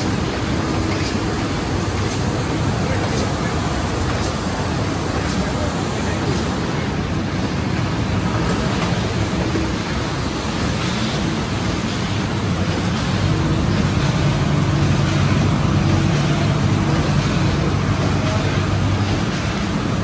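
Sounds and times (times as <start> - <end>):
printing press running: 0.0 - 20.0.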